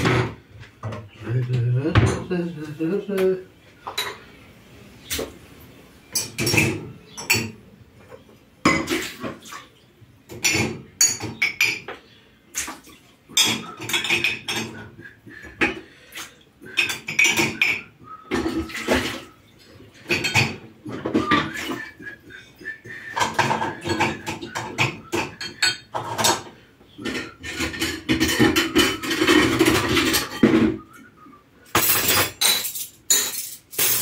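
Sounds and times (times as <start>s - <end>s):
dishes clinking and clattering: 0.0s - 1.1s, 3.8s - 4.3s, 6.0s - 16.0s, 16.6s - 34.0s.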